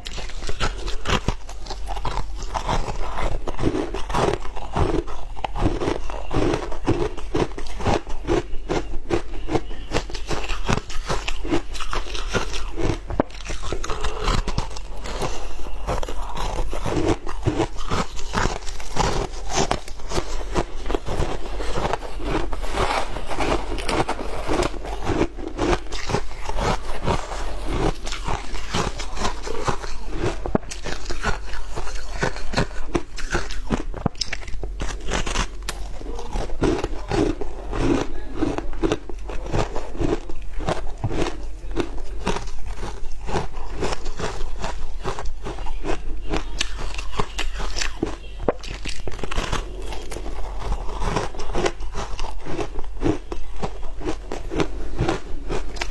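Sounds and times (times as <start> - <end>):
crunching shaved ice: 0.0 - 55.9.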